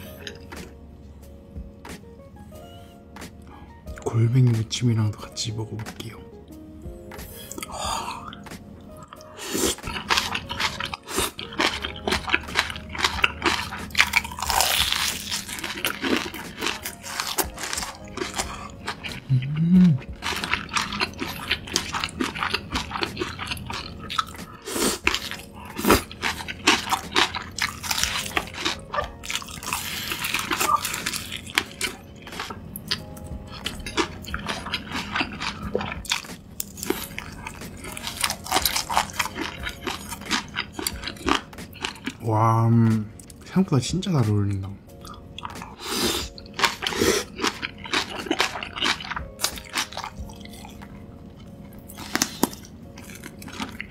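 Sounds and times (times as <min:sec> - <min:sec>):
crunching and chewing: 0:00.0 - 0:00.7, 0:07.5 - 0:42.3, 0:44.9 - 0:53.9.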